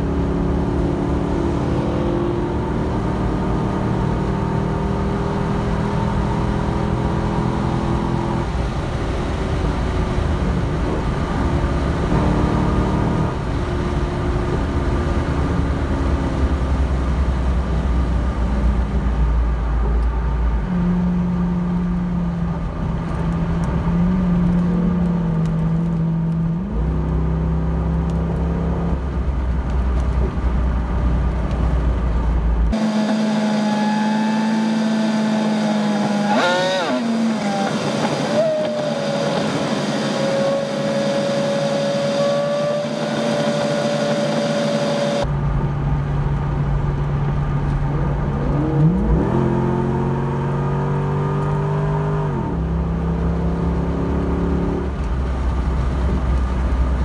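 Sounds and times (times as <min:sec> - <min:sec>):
car engine droning: 0:00.0 - 0:57.0
road noise inside car: 0:00.0 - 0:57.0.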